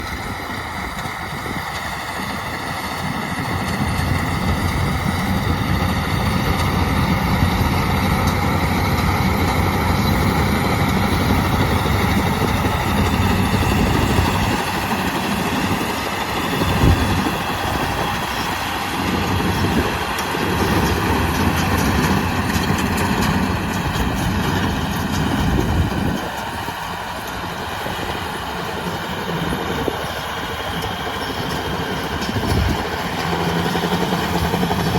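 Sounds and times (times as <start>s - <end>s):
combine harvester engine hum: 0.0s - 34.9s
whine of threshing gear: 0.0s - 34.9s.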